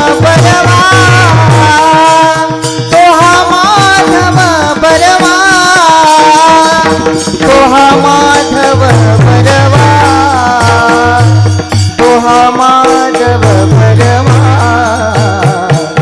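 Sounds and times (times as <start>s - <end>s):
hand drum strokes: 0.0s - 16.0s
held accompaniment tones: 0.0s - 16.0s.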